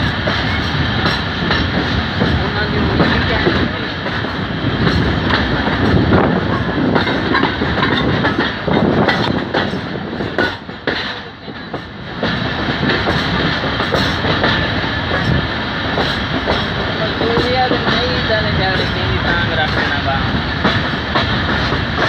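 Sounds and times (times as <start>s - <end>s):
train running noise: 0.0s - 22.0s
wheels clattering on rails: 0.0s - 22.0s.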